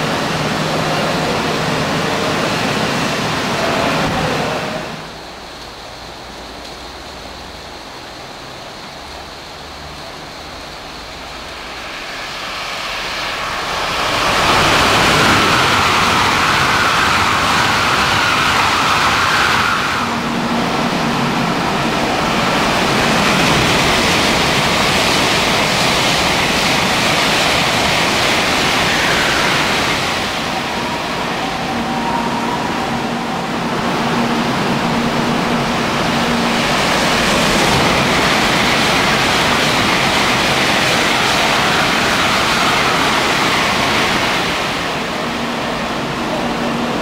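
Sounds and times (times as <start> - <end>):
bullet train passing: 0.0 - 47.0
high whine: 0.0 - 47.0.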